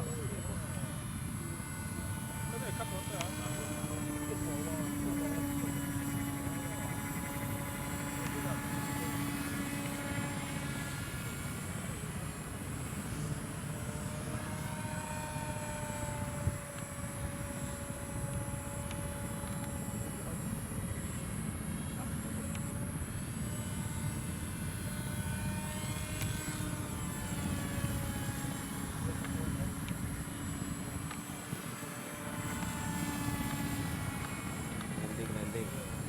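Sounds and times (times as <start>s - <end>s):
model airplane motor whine: 0.0s - 36.0s.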